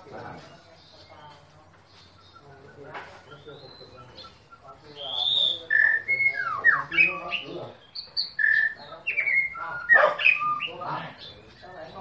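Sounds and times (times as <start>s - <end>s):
bird singing whistled notes: 0.3s - 12.0s.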